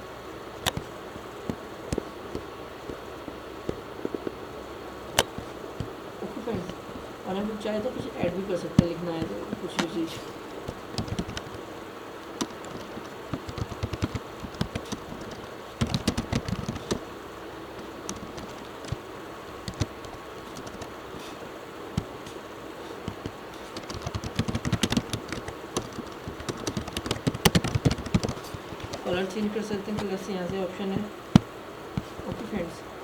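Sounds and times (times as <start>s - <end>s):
computer keyboard typing: 5.1s - 32.7s.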